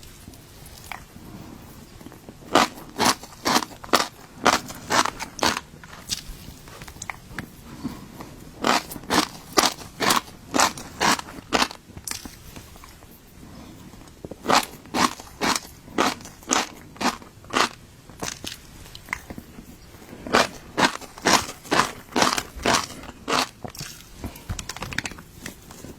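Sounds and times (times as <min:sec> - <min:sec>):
crunchy chewing: 0:00.0 - 0:25.9.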